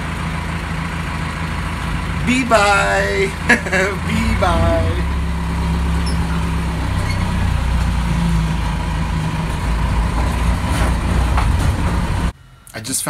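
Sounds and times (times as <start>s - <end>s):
diesel engine droning: 0.0s - 12.8s.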